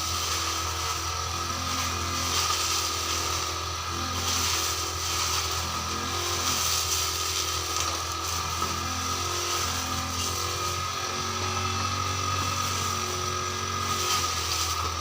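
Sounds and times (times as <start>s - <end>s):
brush cutter engine running: 0.0s - 15.0s.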